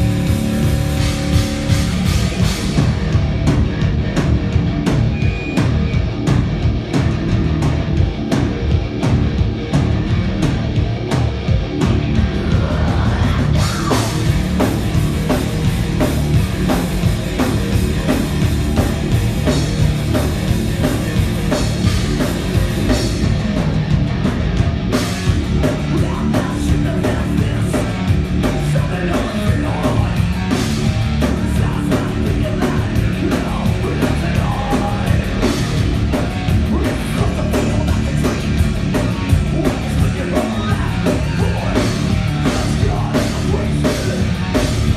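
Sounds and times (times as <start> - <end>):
drum kit: 0.0 - 44.9
live heavy rock band: 0.0 - 44.9.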